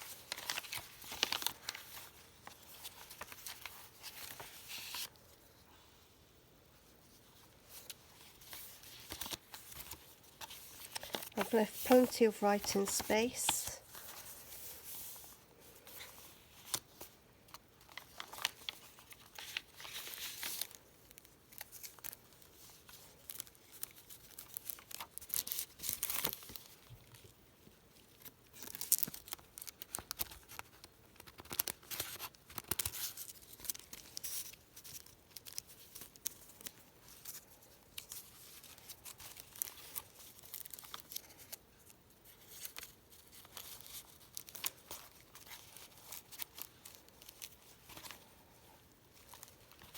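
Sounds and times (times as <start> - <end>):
paper rustling and crinkling: 0.0 - 5.9, 6.8 - 49.9.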